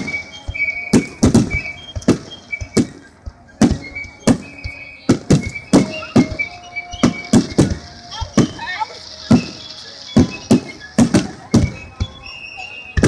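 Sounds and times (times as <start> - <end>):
fireworks booming: 0.0 - 12.4.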